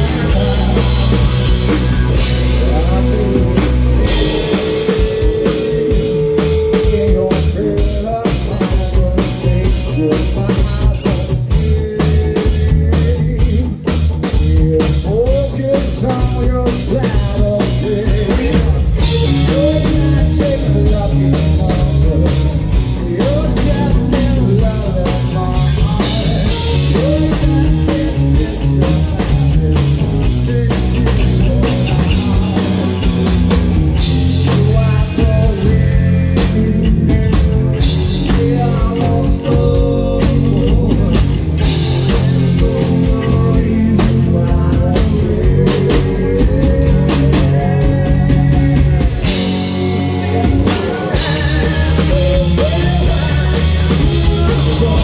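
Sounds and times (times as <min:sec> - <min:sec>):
bass guitar: 0:00.0 - 0:55.0
drum kit: 0:00.0 - 0:55.0
electric guitars: 0:00.0 - 0:55.0
man singing lead vocals: 0:00.0 - 0:55.0.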